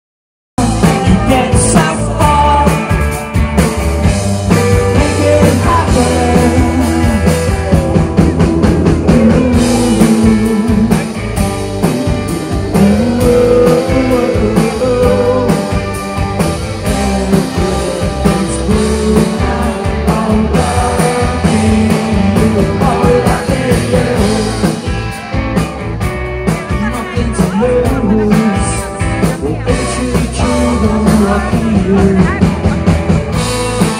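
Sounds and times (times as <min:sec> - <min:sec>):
person singing lead vocal: 0:00.6 - 0:25.3, 0:26.5 - 0:33.9
live rock band playing: 0:00.6 - 0:33.9.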